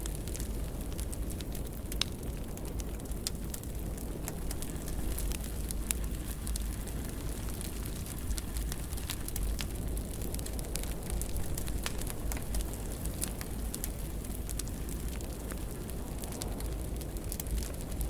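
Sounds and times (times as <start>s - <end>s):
fire crackles and pops: 0.0s - 18.0s
wood fire rumble and hiss: 0.0s - 18.0s.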